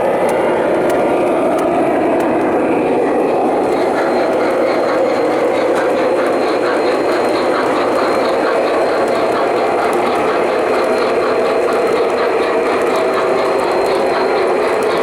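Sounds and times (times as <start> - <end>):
model train rolling rumble: 0.0 - 15.0
faint track clicks: 0.1 - 15.0.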